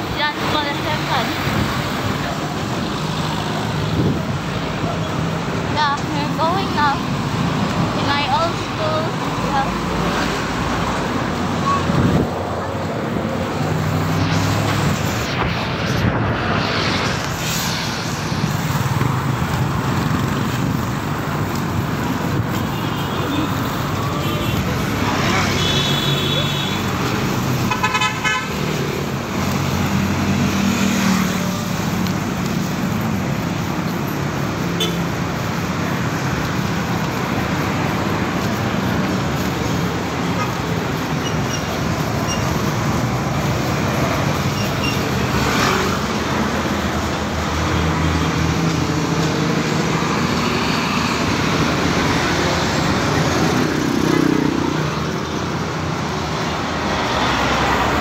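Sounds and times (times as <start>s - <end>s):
vehicle engines passing: 0.0s - 58.0s.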